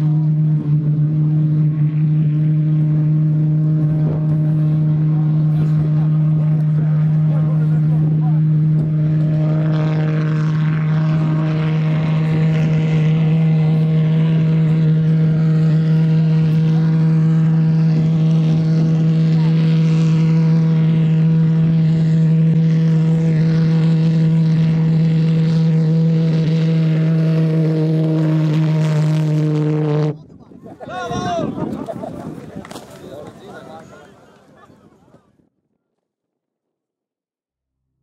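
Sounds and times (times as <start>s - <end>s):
engine droning steadily: 0.0s - 35.3s.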